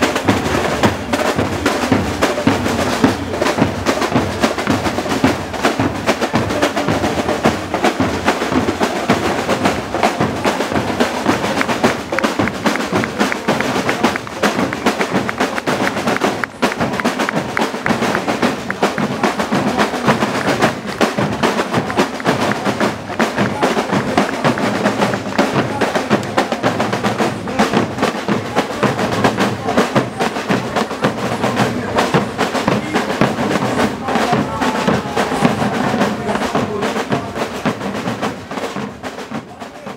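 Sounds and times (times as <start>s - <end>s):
bass drums: 0.0s - 39.9s
snare drums: 0.0s - 39.9s.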